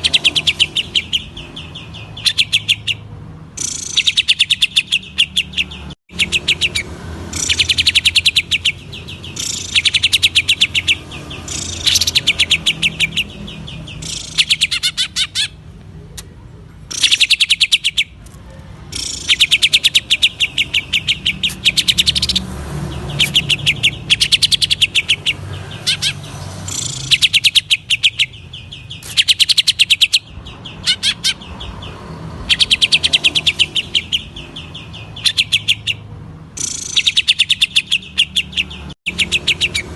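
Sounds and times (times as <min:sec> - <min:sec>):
bird singing rapid high notes: 0:00.0 - 0:16.3, 0:16.9 - 0:39.9.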